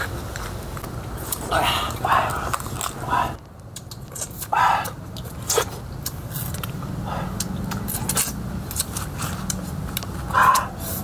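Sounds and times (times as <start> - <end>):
sticky chewing clicks and smacks: 0.4 - 10.9.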